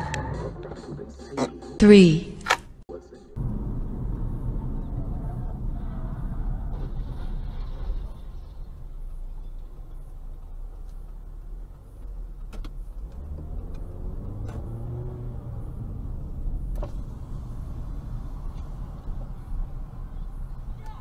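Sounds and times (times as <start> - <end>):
car engine and road noise: 2.4 - 21.0.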